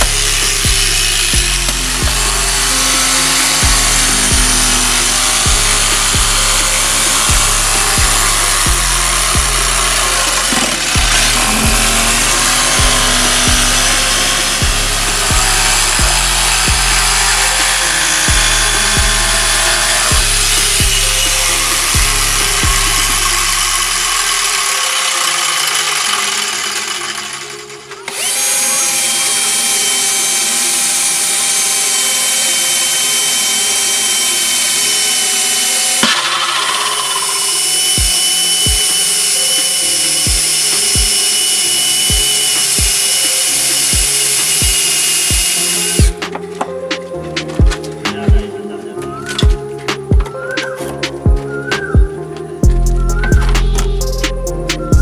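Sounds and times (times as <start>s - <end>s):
background music with bass beat: 0.0s - 25.1s, 36.0s - 55.0s
electric jigsaw cutting: 0.0s - 46.7s
power drill whining: 0.0s - 55.0s.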